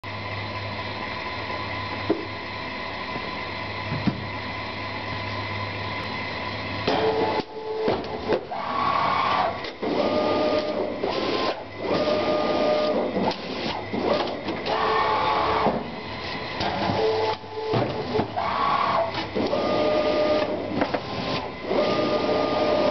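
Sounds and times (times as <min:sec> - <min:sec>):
machine hum: 0:00.0 - 0:22.9
mechanical runs with whine: 0:00.1 - 0:22.9.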